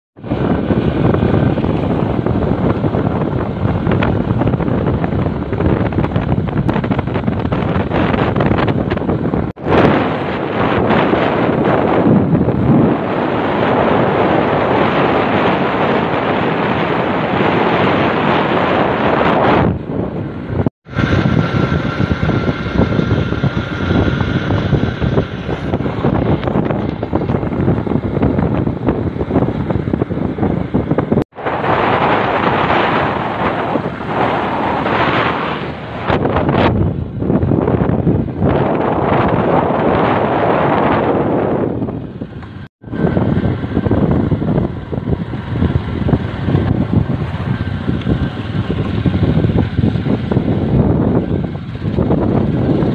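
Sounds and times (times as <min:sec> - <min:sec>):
motorcycle engine running: 0:00.2 - 0:52.9
vehicle noise: 0:00.2 - 0:52.9
wind buffeting phone microphone: 0:00.2 - 0:52.9.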